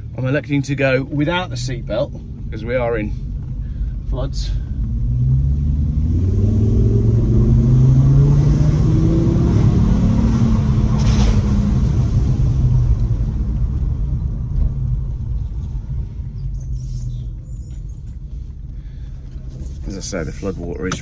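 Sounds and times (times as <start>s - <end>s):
car engine reversing: 0.0s - 21.0s.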